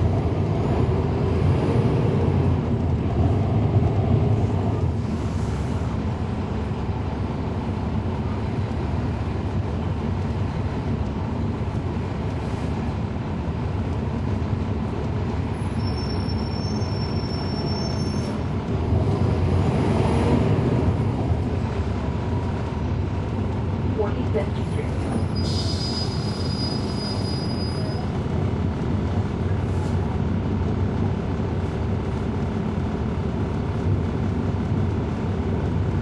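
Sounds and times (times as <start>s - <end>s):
bus diesel engine drone: 0.0s - 36.0s.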